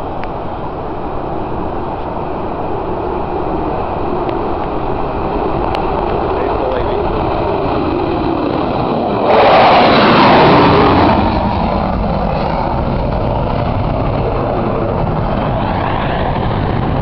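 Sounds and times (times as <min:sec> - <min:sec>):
fighter jet roar: 0:00.0 - 0:17.0.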